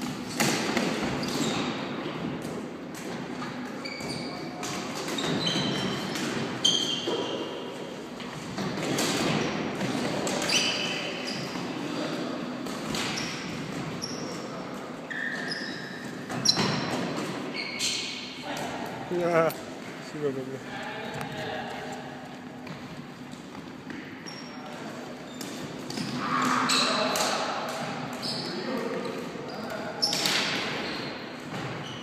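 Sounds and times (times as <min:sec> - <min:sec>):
sneakers squeaking on gym floor: 0:00.2 - 0:02.4, 0:03.4 - 0:11.8, 0:12.9 - 0:18.4, 0:22.5 - 0:32.0.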